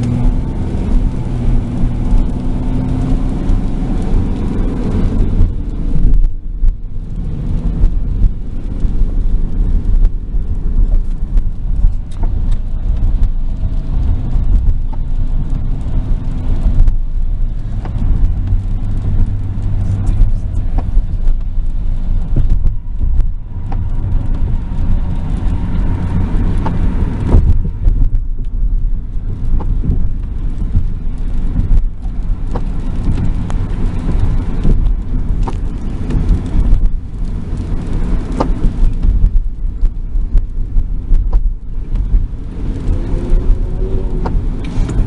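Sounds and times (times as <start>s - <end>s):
car road noise rumble: 0.0s - 45.0s.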